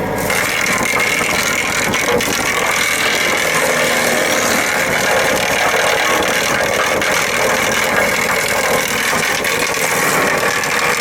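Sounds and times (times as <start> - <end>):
wood chipper running: 0.0 - 11.0
sharp cracks: 0.2 - 11.0.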